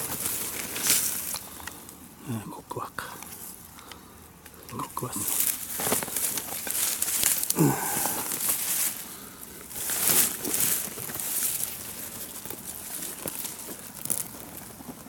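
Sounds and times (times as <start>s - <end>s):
dry leaves rustling and crunching: 0.0s - 2.0s, 3.1s - 15.0s.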